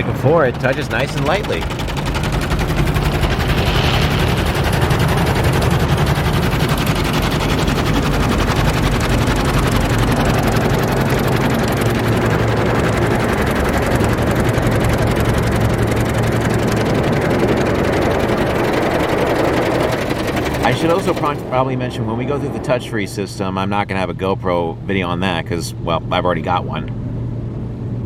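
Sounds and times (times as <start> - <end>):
wash machinery humming: 0.0 - 28.0.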